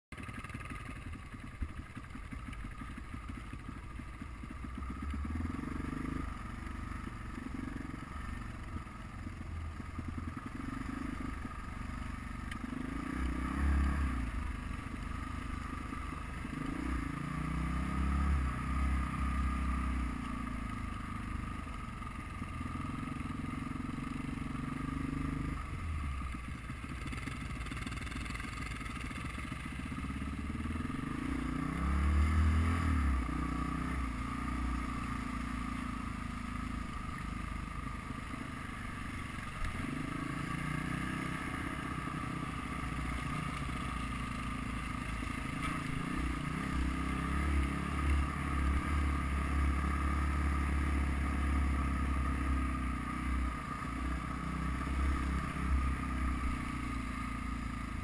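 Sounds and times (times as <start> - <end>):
motorcycle engine revving: 0.1 - 58.0.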